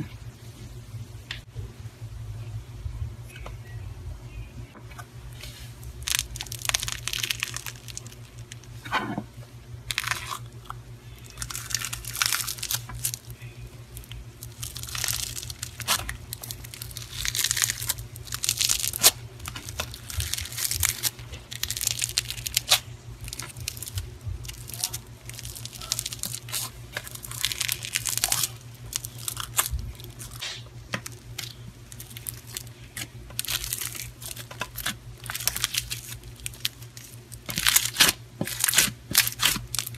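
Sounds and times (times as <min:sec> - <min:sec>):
steady low hum: 0:00.0 - 0:39.9
foam beads crunching in slime: 0:05.4 - 0:08.9, 0:09.9 - 0:10.6, 0:11.2 - 0:39.9.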